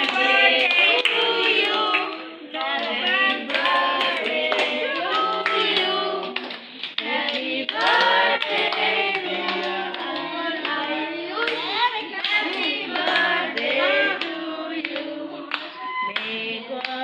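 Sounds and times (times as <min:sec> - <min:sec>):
group singing birthday song: 0:00.0 - 0:17.0
hands clapping along: 0:00.0 - 0:17.0.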